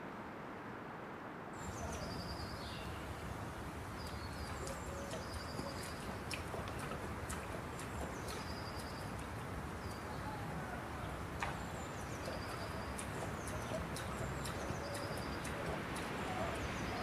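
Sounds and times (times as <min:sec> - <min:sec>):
steady background hiss: 0:00.0 - 0:17.0
small bird calling: 0:01.6 - 0:03.3, 0:03.9 - 0:17.0.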